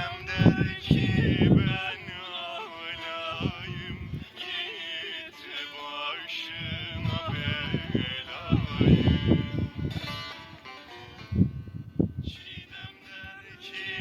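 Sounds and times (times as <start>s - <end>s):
man singing long notes: 0.0s - 9.9s, 12.2s - 14.0s
strummed strings: 0.0s - 11.9s.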